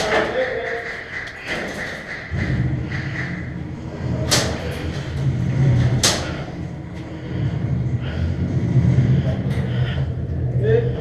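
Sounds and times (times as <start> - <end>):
low hum: 0.9 - 11.0.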